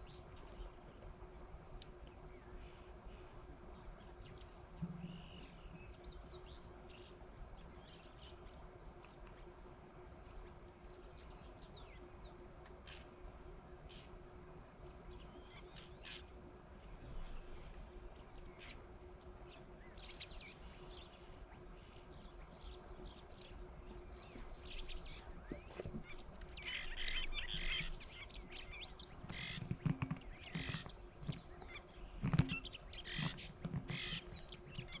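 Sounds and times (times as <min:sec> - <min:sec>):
small birds chirping: 0:00.0 - 0:01.2, 0:01.8 - 0:35.0
faint steady low hum: 0:00.0 - 0:35.0.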